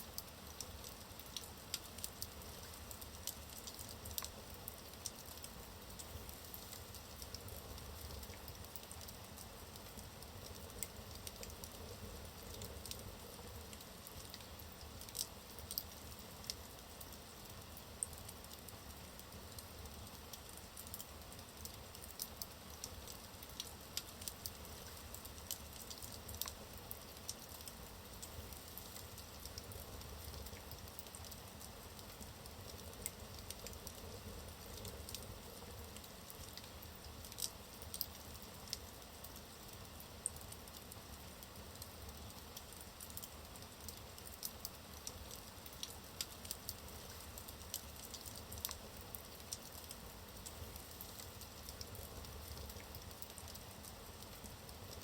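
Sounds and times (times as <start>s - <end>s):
fire crackling and popping: 0.1s - 55.0s.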